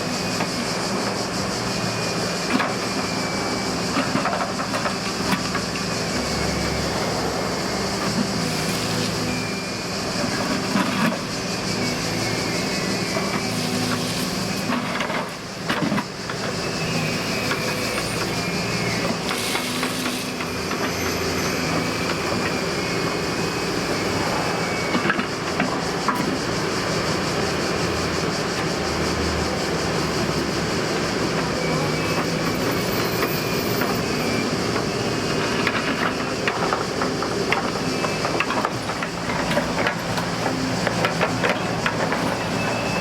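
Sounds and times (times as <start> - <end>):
heavy diesel engine running: 0.0 - 43.0.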